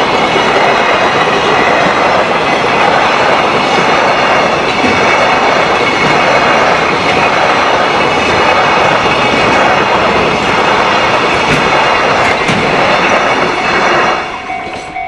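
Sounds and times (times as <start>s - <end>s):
passing train wheel noise: 0.0s - 15.0s.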